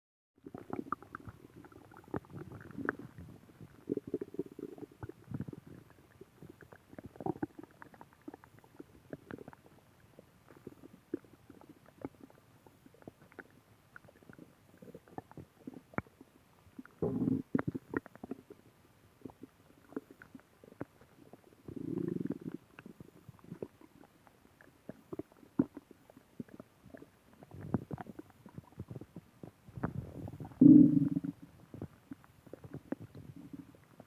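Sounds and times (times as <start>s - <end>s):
stomach growling and gurgling: 0.4s - 34.0s.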